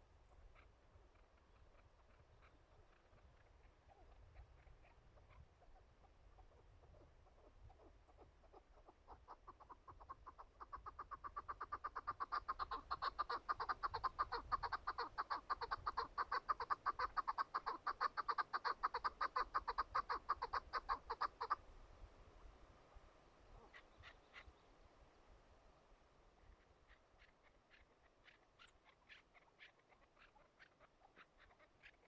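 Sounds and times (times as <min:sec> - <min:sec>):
partridge clucking calls: 0:00.3 - 0:21.6, 0:23.6 - 0:24.6, 0:26.4 - 0:32.0.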